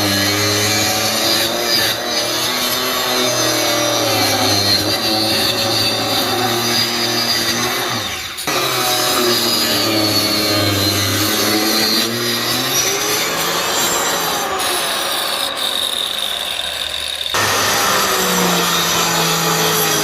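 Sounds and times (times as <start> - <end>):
circular saw cutting wood: 0.0 - 20.0.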